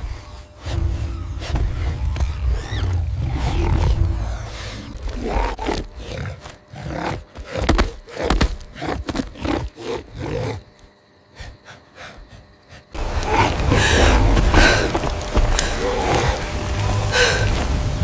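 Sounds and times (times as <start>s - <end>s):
hyena snarling and growling: 0.6s - 17.6s.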